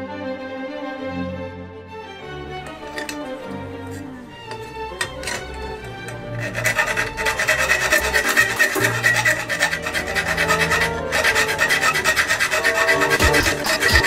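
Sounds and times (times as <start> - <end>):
file rasping on sheet metal: 2.6 - 14.0.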